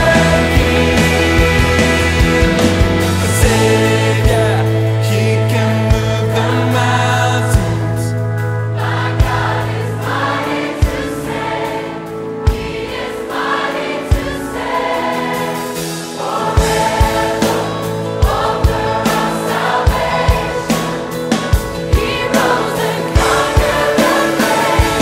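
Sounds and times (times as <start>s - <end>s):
steady drum beat: 0.0s - 6.7s, 8.9s - 11.8s, 12.5s - 25.0s
choir singing christian song: 0.0s - 25.0s.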